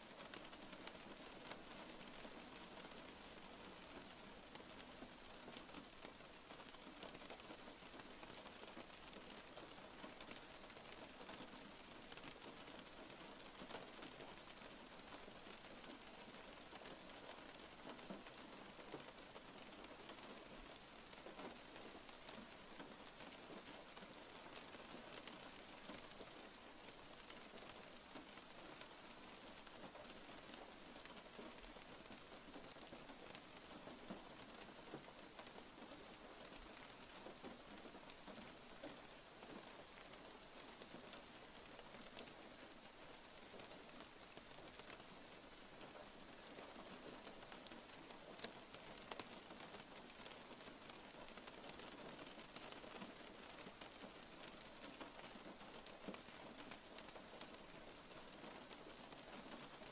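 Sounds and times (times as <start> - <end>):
faint steady rain: 0.0 - 59.9
raindrop ticks: 0.0 - 59.9.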